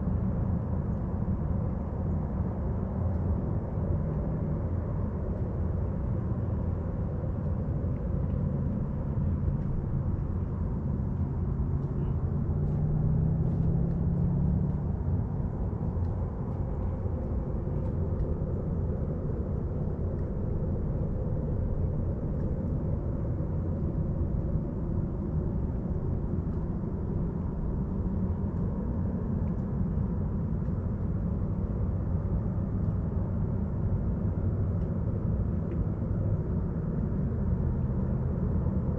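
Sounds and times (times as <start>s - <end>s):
distant engine rumble: 4.7s - 38.9s.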